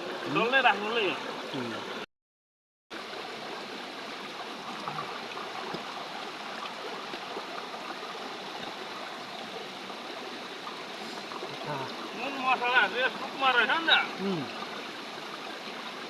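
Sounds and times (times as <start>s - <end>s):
river water rushing: 0.0s - 2.0s, 2.9s - 16.0s.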